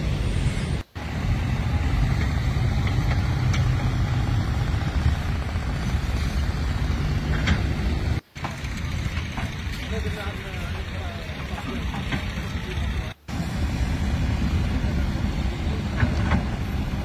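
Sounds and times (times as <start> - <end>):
heavy machinery engine rumble: 0.0 - 17.0.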